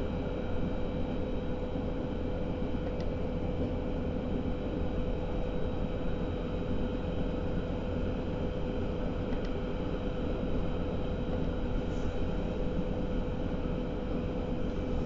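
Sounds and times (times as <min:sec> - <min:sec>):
constant electric hum: 0:00.0 - 0:15.0.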